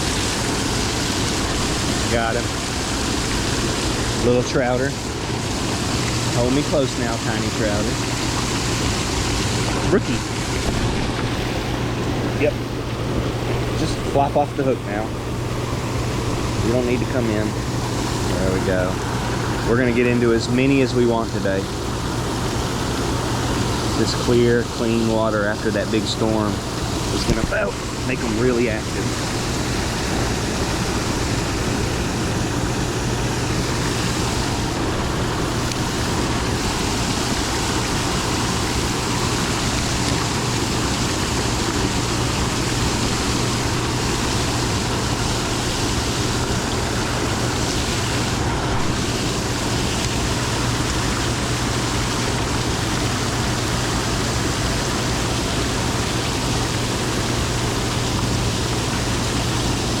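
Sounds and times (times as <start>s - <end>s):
constant low hum: 0.0s - 60.0s
fast-flowing water rushing: 0.0s - 60.0s.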